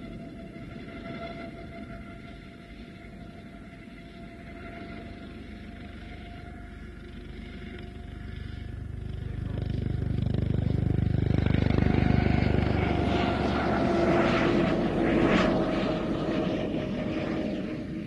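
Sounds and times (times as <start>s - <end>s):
helicopter rotor beating: 0.0s - 18.0s
helicopter turbine whine: 0.0s - 18.0s.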